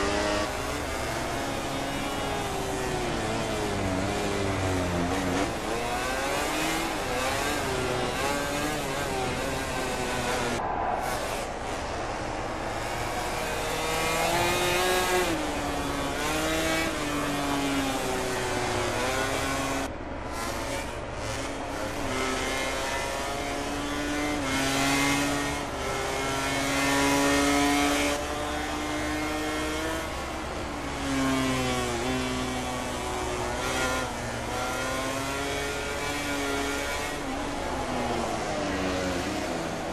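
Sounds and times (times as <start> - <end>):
race motorcycle engines: 0.0 - 39.9.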